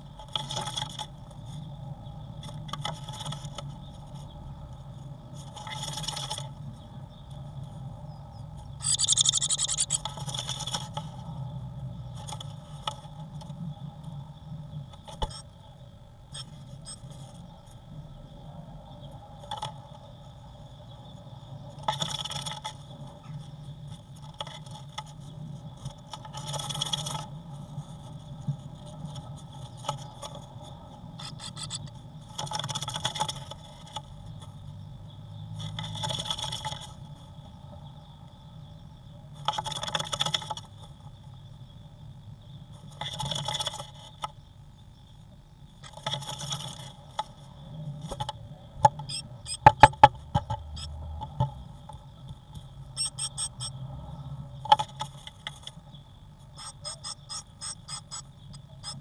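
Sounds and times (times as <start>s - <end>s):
faint hum: 0.0s - 59.0s.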